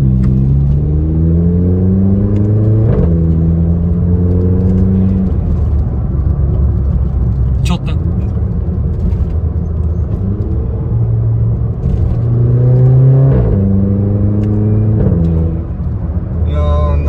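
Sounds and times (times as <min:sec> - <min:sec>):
car accelerating hard with upshifts: 0:00.0 - 0:07.4, 0:09.0 - 0:16.4.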